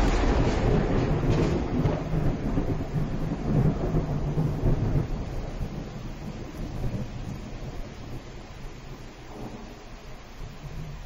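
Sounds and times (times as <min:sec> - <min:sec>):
rain hissing: 0:00.0 - 0:11.0
thunder rumbling: 0:00.0 - 0:11.0.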